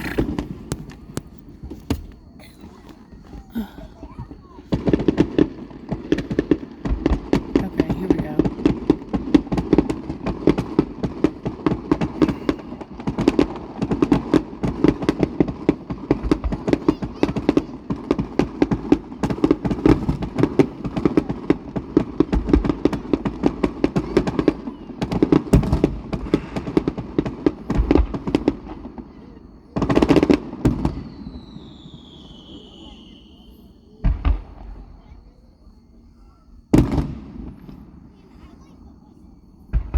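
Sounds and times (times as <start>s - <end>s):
fireworks crackling pops: 0.0s - 35.4s, 36.7s - 39.9s
fireworks booms: 0.0s - 39.9s.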